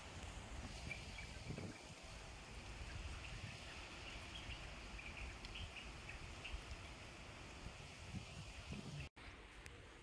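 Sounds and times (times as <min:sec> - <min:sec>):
wind rumble on microphone: 0:00.0 - 0:09.1
even hiss: 0:00.0 - 0:10.0.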